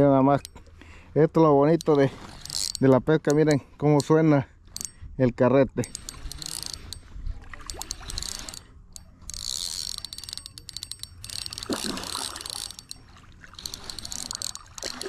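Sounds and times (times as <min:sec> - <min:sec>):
fishing reel drag ratcheting: 0:01.6 - 0:05.0, 0:05.8 - 0:15.0.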